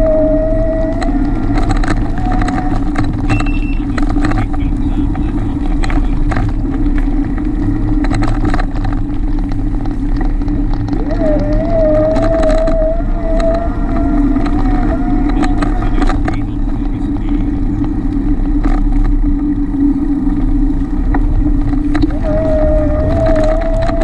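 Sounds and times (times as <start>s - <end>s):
bicycle clicks and rattles: 0.0s - 24.0s
bicycle riding rumble: 0.0s - 24.0s
wavering whine: 0.0s - 24.0s.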